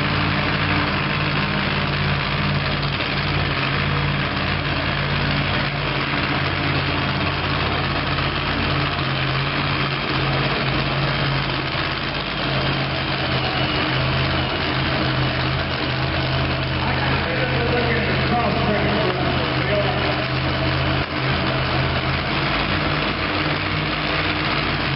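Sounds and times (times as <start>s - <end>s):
truck engine idling: 0.0s - 24.9s.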